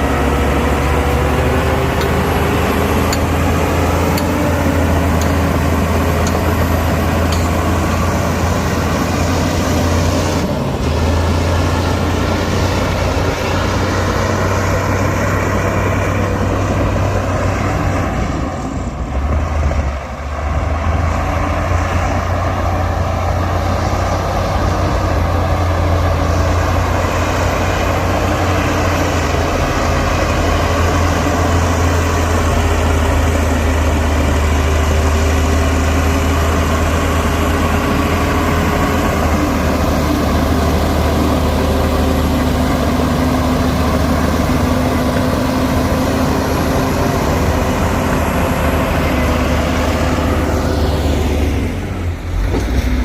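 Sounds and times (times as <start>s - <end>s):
heavy diesel engine rumbling: 0.0s - 53.0s.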